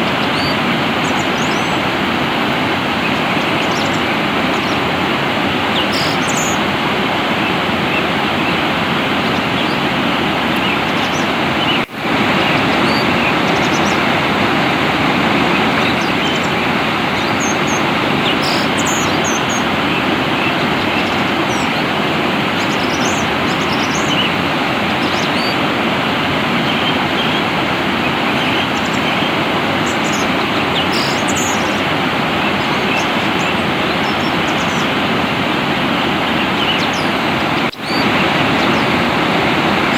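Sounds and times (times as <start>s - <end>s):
flowing water rushing: 0.0s - 39.9s
small birds chirping: 0.0s - 39.9s.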